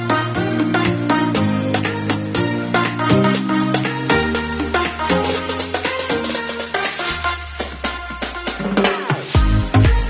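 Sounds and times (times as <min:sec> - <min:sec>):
upbeat electronic dance music: 0:00.0 - 0:10.0.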